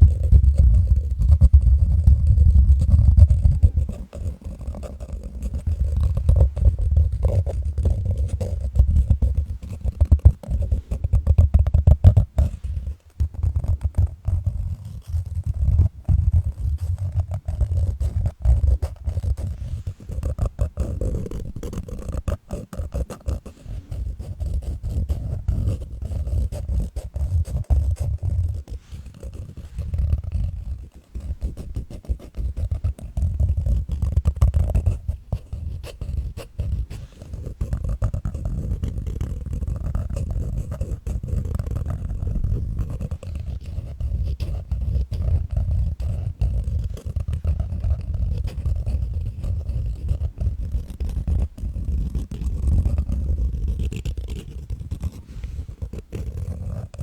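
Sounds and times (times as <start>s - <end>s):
deep rumbling crackling noise: 0.0s - 57.0s.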